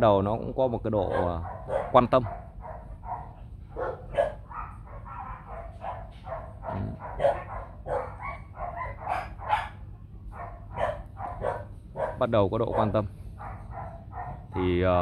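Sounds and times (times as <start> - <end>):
dogs barking: 0.9 - 14.9.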